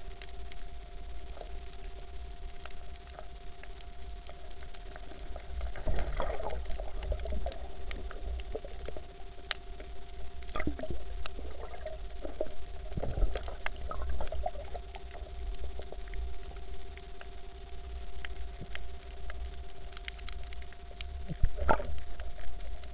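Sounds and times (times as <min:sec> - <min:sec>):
faint steady hums: 0:00.0 - 0:22.9
sharp clicks underwater: 0:00.0 - 0:22.9
underwater rumbling and crackling: 0:00.0 - 0:22.9.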